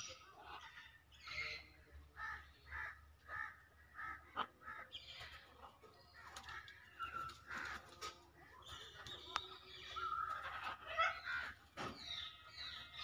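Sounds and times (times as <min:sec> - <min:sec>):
macaws calling: 0:00.0 - 0:13.0.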